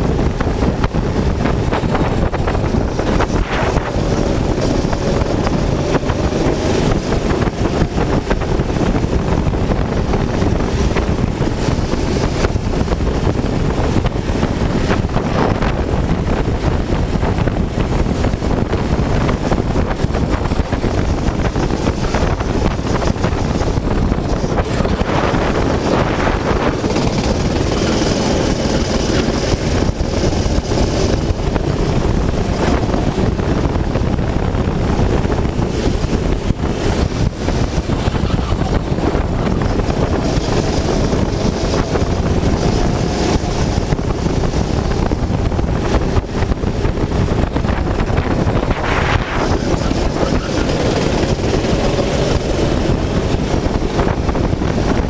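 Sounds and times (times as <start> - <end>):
racing kart engine: 0.0 - 55.0
wind buffeting microphone: 0.0 - 55.0.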